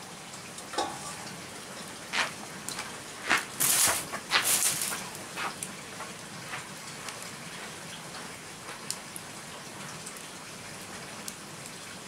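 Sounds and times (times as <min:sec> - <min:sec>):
wood fire crackling: 0:00.3 - 0:12.0.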